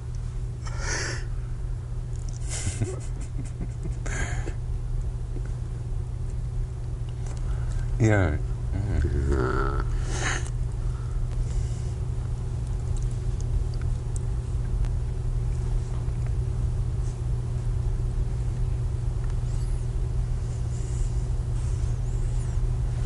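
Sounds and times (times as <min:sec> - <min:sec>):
low tape hum and rumble: 0:00.0 - 0:23.0.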